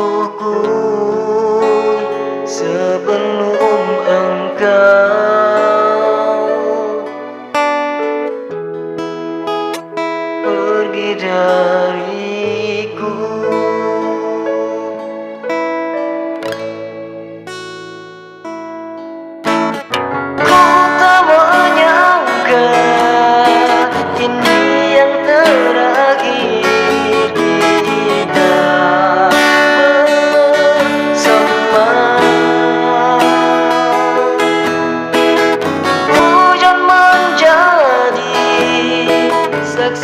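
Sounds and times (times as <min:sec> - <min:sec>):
guitar-like lead melody: 0:00.0 - 0:40.0
pop ballad on electronic keyboard: 0:00.0 - 0:40.0.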